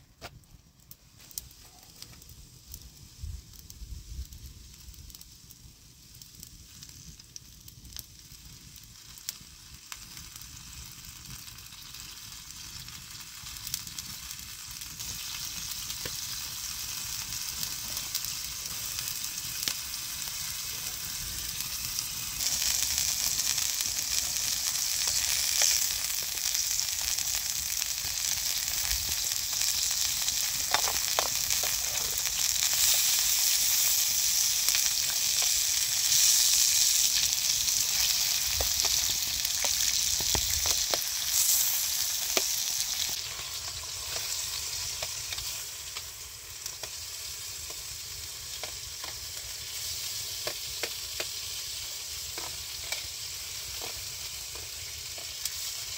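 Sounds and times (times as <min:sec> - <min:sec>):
meat sizzling in grill pan: 0:02.5 - 0:55.9.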